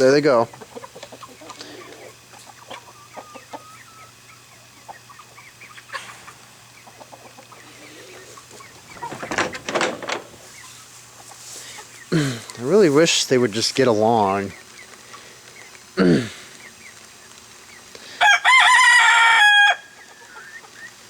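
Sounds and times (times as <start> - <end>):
chickens clucking: 0.0 - 18.1, 19.9 - 21.0
chickens calling in commotion: 0.1 - 12.8, 13.9 - 21.0.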